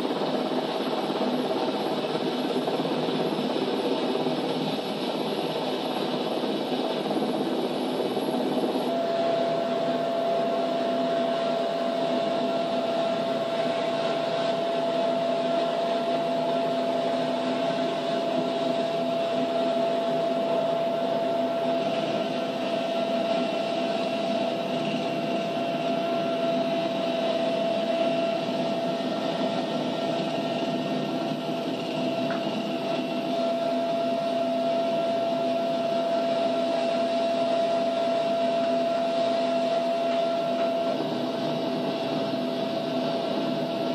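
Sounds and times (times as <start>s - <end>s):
helicopter cabin noise: 0.0s - 43.9s.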